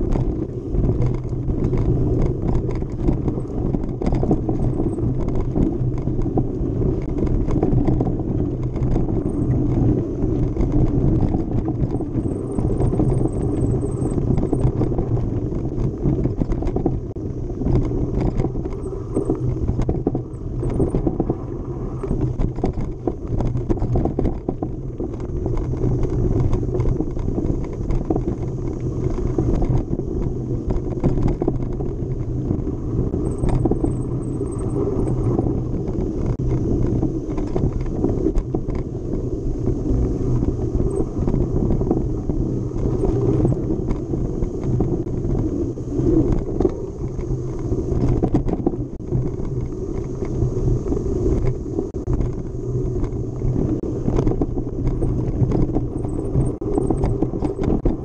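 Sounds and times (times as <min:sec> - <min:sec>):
mountain bike rattling: 0:00.0 - 0:58.0
wind on microphone: 0:00.0 - 0:58.0.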